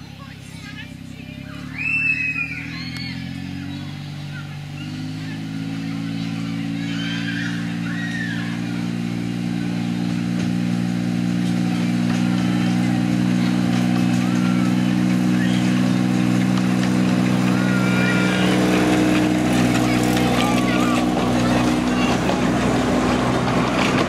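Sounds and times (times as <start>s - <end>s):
small train engine humming: 0.0s - 24.0s.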